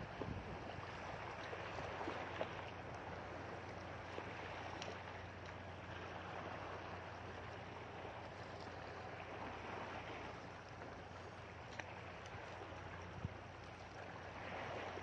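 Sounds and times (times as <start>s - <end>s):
sea washing against rocks: 0.0s - 15.0s.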